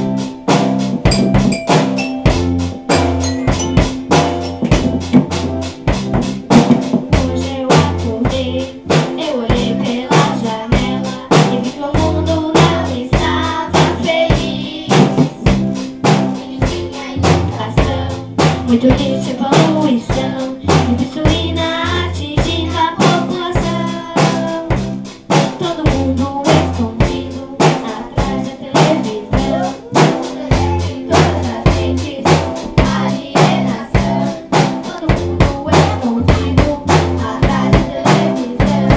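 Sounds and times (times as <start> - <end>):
drum kit beat: 0.0 - 38.9
live band music: 0.0 - 38.9.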